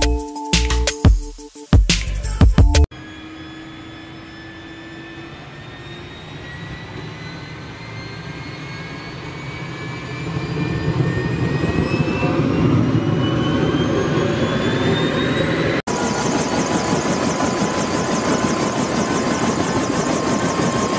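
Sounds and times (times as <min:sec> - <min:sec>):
helicopter turbine whine: 0:02.9 - 0:20.9.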